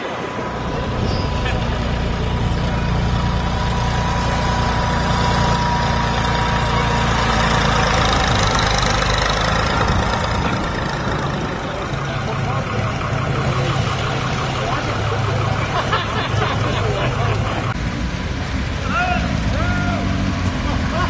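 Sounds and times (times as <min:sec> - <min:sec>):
tractor engine idling: 0:00.7 - 0:17.8.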